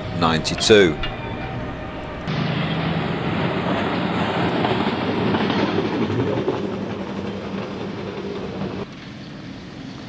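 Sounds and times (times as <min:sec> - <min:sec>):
rail vehicle running on track: 0:00.0 - 0:10.0.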